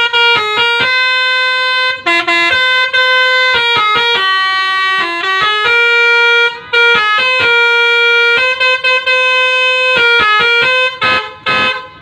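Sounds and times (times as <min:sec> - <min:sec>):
melodica playing a tune: 0:00.0 - 0:12.0.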